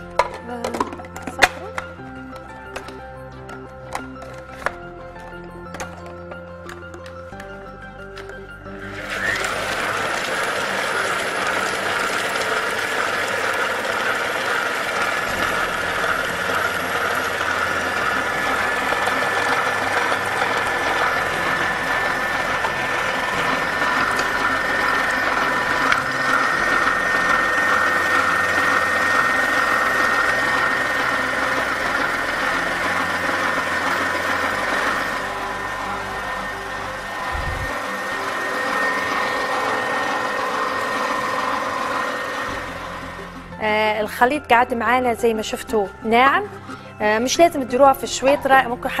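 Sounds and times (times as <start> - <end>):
food processor whirring: 0.0 - 44.1.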